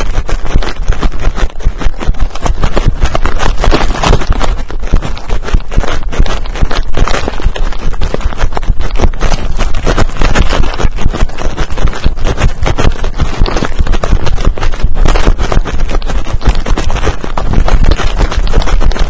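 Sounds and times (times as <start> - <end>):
grass and brush scraping camera: 0.0 - 19.0.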